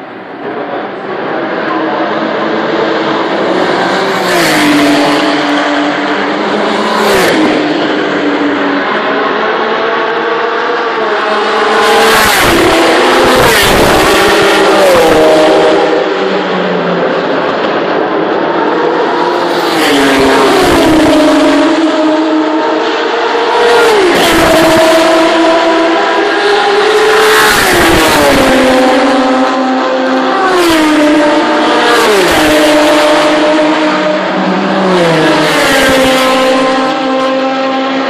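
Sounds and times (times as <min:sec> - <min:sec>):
race cars passing at speed: 0:00.0 - 0:38.0.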